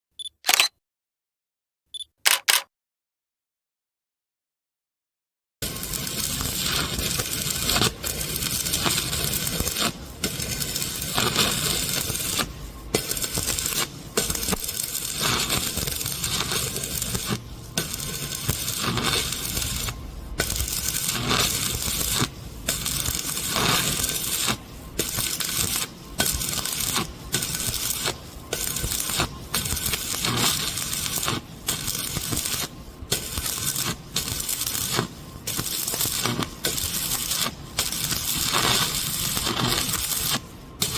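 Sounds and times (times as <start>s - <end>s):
welding arc crackling: 5.6s - 40.9s.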